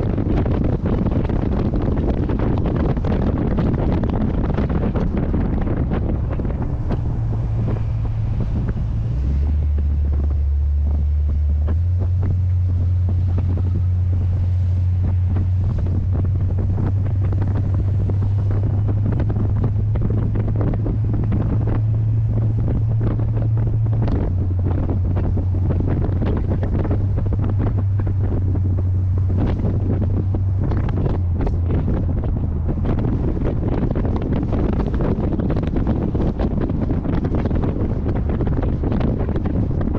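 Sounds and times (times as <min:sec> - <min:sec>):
car engine drone: 0:00.0 - 0:39.9
wind buffeting microphone: 0:00.0 - 0:39.9.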